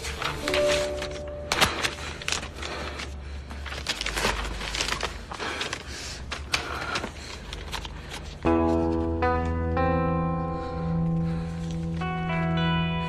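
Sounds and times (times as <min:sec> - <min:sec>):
paper pages rustling: 0:00.0 - 0:09.7, 0:11.2 - 0:12.4.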